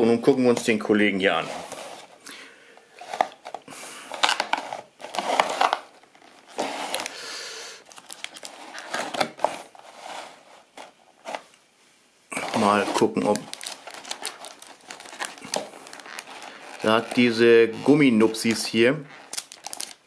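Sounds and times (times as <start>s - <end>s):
plastic packaging crinkling: 3.0s - 11.4s, 12.4s - 20.0s.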